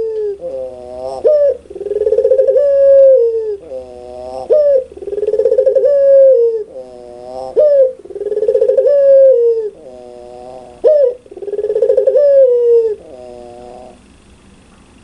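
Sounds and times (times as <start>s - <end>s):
dove cooing: 0.0s - 14.2s.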